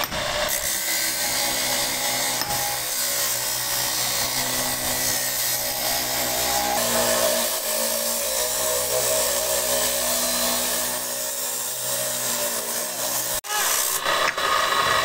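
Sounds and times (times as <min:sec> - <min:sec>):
abrasive saw grinding steel: 0:00.0 - 0:15.0.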